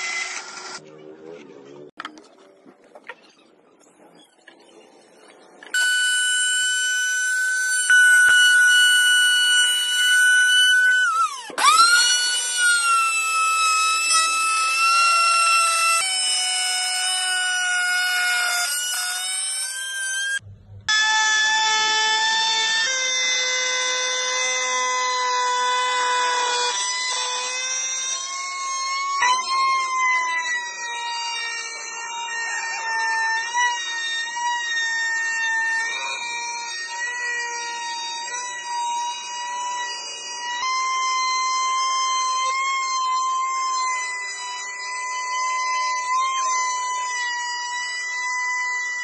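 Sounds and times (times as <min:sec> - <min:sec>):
router motor whining: 0:05.6 - 0:49.0.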